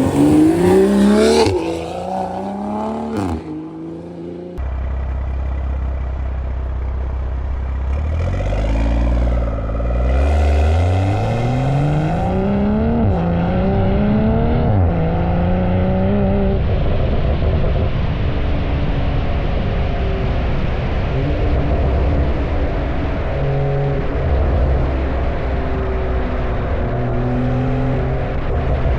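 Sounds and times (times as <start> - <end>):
car engine accelerating hard: 0.0 - 28.9.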